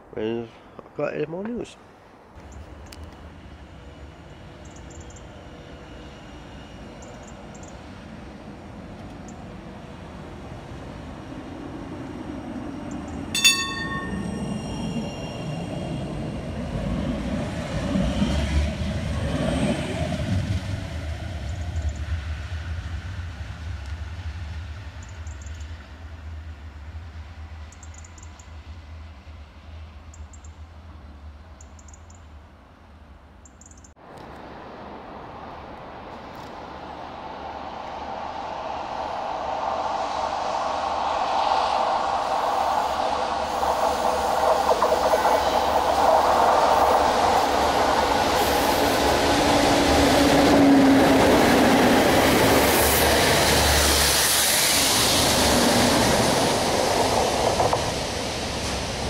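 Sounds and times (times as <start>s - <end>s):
tram rumbling past: 2.4s - 33.4s, 34.0s - 59.0s.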